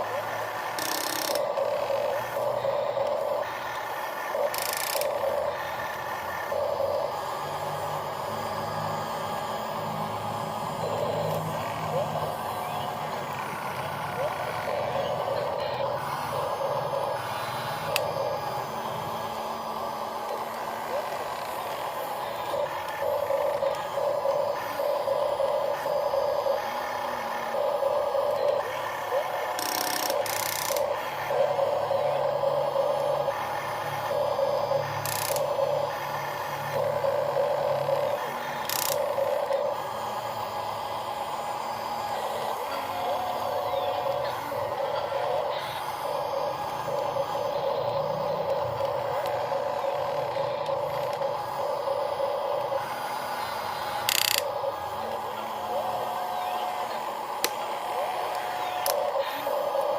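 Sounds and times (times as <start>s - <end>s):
small electric motors whirring: 0.0s - 59.9s.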